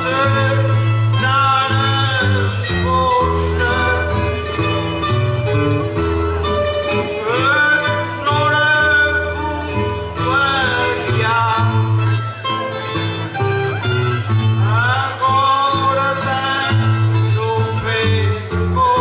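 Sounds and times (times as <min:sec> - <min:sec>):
man singing: 0:00.0 - 0:13.4, 0:14.0 - 0:19.0
plucked acoustic guitars: 0:00.0 - 0:19.0
steady bass line: 0:00.0 - 0:19.0.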